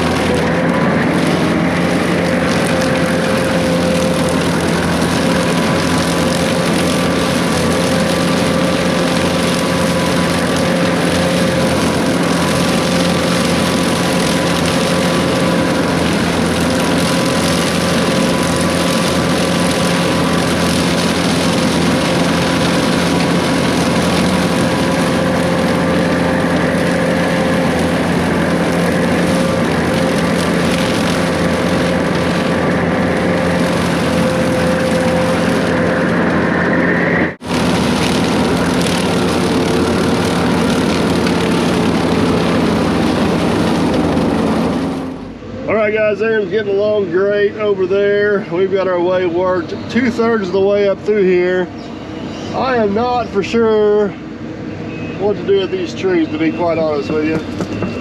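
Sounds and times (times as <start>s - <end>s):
diesel engine drone: 0.0s - 58.0s
high whine: 0.0s - 58.0s.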